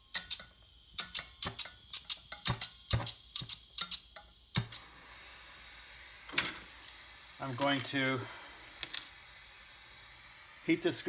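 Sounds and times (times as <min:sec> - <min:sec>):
torch gas hissing: 0:00.0 - 0:11.0.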